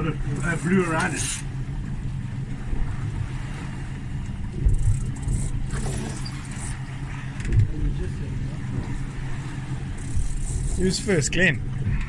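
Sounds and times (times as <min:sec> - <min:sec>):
outboard engine humming: 0:00.0 - 0:12.0
sea noise: 0:00.0 - 0:12.0
wind: 0:00.0 - 0:12.0.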